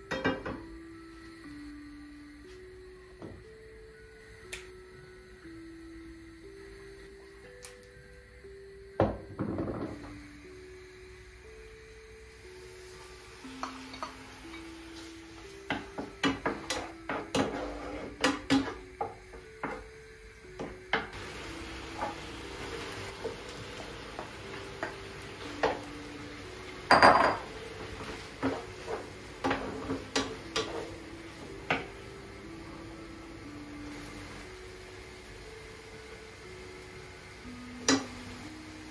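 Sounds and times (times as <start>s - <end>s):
soft background music: 0.0s - 38.9s.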